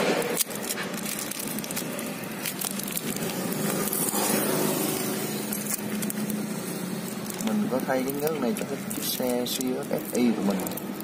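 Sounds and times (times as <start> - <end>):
plastic shrink-wrap crinkling: 0.0 - 11.0.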